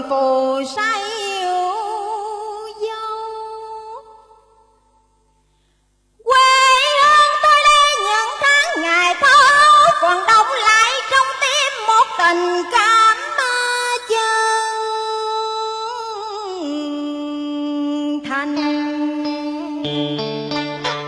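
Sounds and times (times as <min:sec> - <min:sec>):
woman singing with vibrato: 0:00.0 - 0:04.6, 0:06.2 - 0:20.0.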